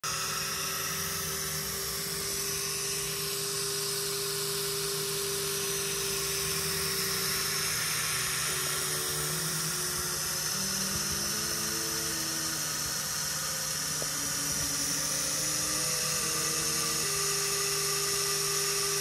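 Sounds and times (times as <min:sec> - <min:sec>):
laser cutter motors whining: 0:00.0 - 0:19.0
high hiss: 0:00.1 - 0:18.9.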